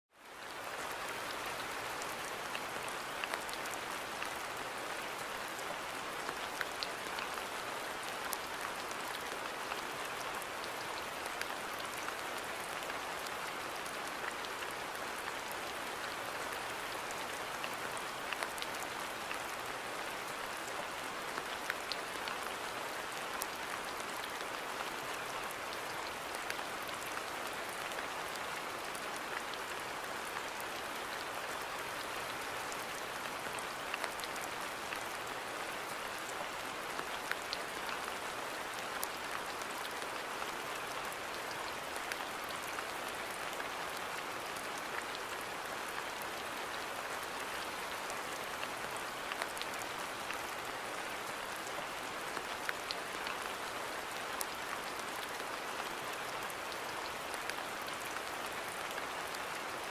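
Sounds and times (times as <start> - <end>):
steady rain hiss: 0.1 - 59.9
raindrops ticking on surfaces: 0.2 - 59.9.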